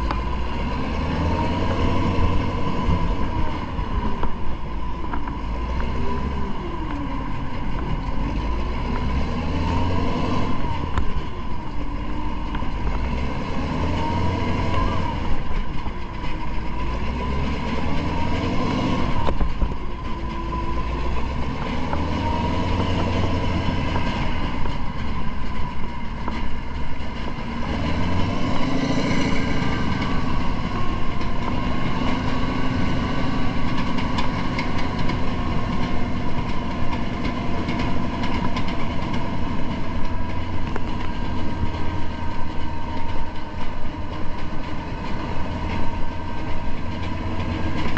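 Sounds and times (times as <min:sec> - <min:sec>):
heavy engine revving: 0:00.0 - 0:47.9.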